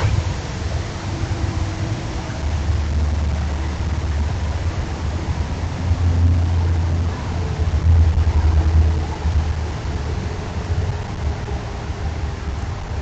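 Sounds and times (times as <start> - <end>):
low rumble: 0.0 - 12.8
steady hiss: 0.0 - 13.0.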